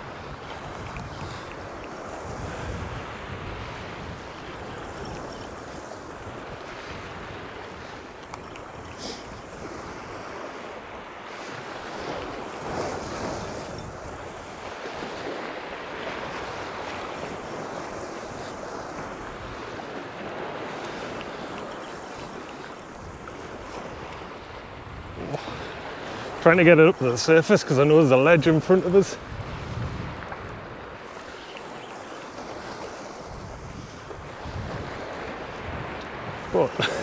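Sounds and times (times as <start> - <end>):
waves breaking on rocks: 0.0 - 37.0
wind buffeting microphone: 0.0 - 37.0.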